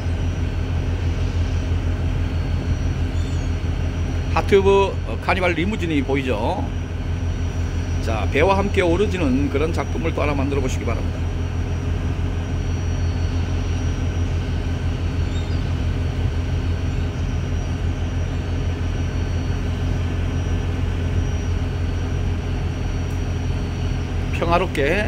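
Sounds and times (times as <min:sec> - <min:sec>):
ship engines droning: 0:00.0 - 0:25.0
wind: 0:00.0 - 0:25.0.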